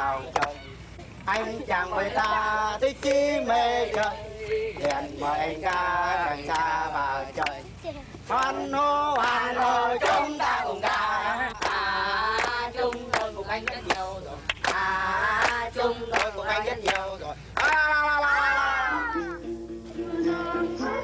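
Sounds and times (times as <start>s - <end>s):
group singing held notes: 1.2s - 21.0s.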